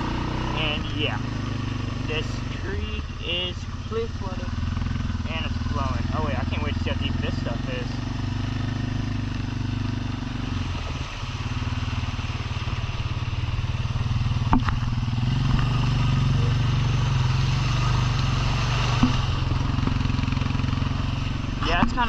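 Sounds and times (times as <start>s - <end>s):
quad bike engine running: 0.0s - 22.0s.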